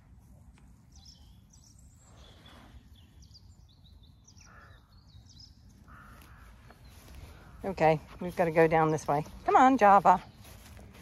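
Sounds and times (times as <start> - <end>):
small birds chirping: 0.8 - 11.0.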